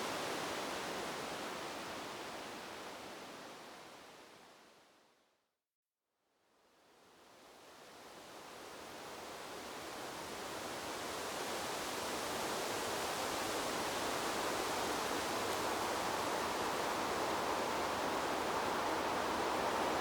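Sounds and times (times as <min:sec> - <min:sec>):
wind rustling bamboo leaves: 0:00.0 - 0:04.9, 0:06.9 - 0:20.0.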